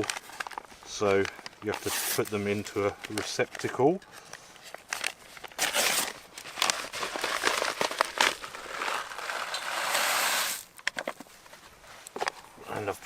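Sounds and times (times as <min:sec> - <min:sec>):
food pouch crinkling and rustling: 0:00.0 - 0:12.4.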